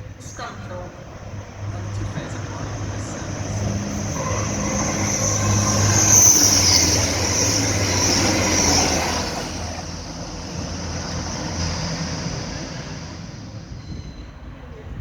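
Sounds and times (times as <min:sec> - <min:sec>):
high hiss of train: 0:00.0 - 0:15.0
train rumbling past: 0:00.0 - 0:15.0.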